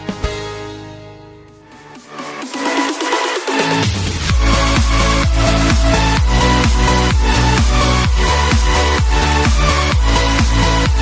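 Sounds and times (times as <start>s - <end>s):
electronic dance music: 1.4s - 11.0s.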